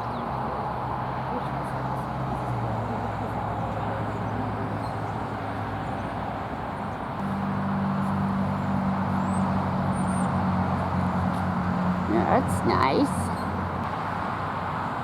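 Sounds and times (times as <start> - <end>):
engine humming: 0.0 - 14.4.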